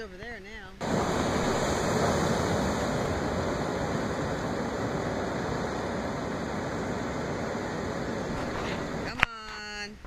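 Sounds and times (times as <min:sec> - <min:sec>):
surf breaking on rocks: 0:00.8 - 0:09.2.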